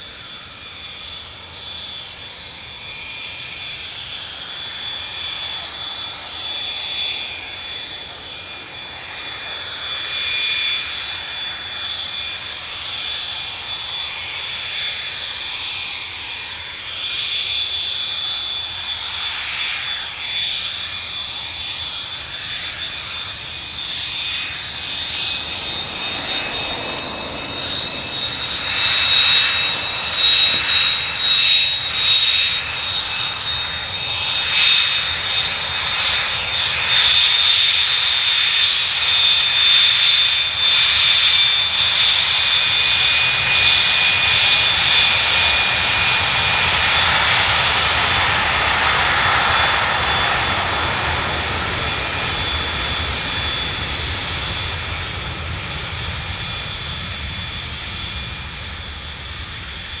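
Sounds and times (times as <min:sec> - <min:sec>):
jet engine roaring with whine: 0:00.0 - 1:00.0.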